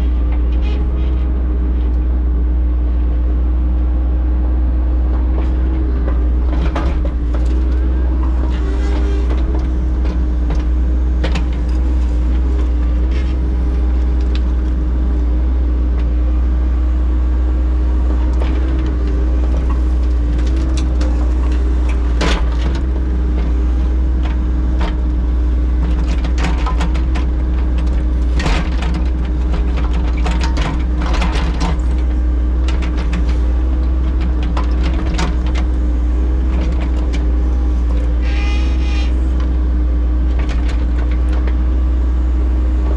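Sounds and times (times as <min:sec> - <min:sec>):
heavy machinery engine running: 0:00.0 - 0:42.9.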